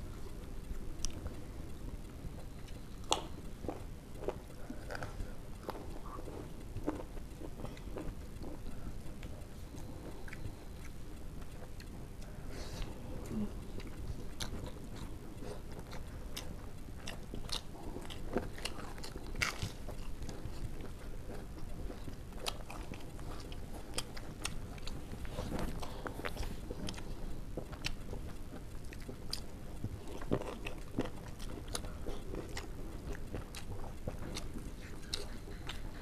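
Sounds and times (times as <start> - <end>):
low background noise: 0.0 - 36.0
wet chewing: 0.3 - 36.0.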